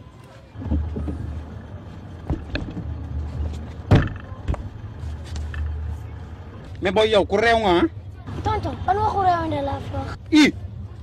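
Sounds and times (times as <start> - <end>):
low steady rumble: 0.5 - 10.0.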